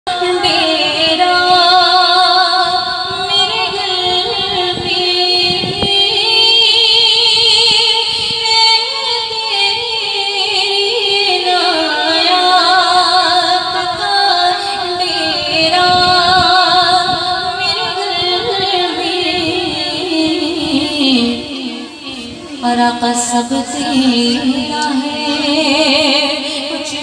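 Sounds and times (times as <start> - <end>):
woman singing with echo: 0.0 - 27.0.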